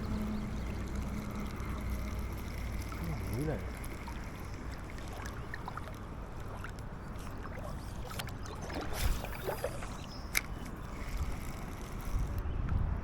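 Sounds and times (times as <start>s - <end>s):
river water running: 0.0s - 12.4s.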